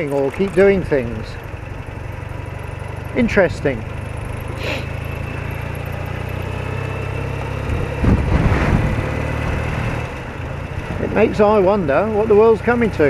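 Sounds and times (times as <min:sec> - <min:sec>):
flat-twin motorcycle engine running: 0:00.0 - 0:13.0.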